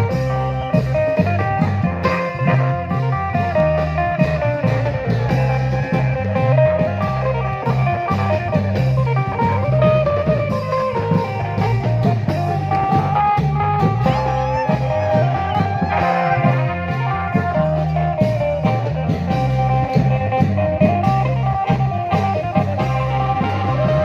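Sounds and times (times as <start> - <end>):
bass line: 0.0 - 24.0
steady drum beats: 0.0 - 24.0.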